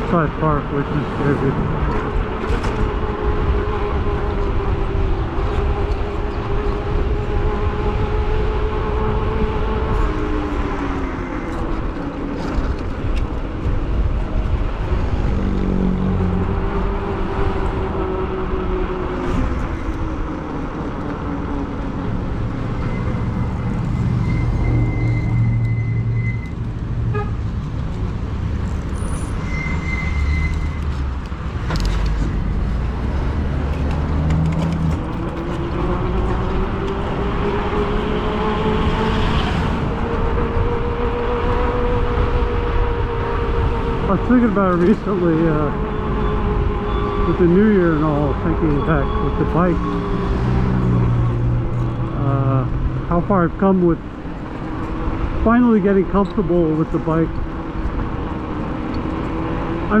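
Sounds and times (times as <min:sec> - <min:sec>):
passing car engines: 0:00.0 - 1:00.0
wind and road noise rumble: 0:00.0 - 1:00.0.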